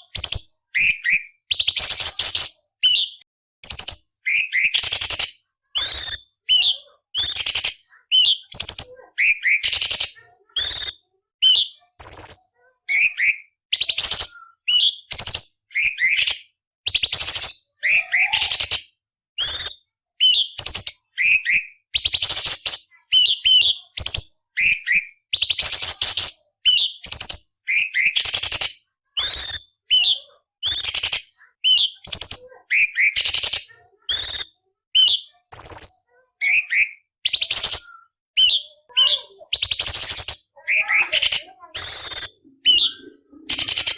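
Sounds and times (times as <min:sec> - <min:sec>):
bird singing whistled phrases: 0:00.0 - 0:43.9.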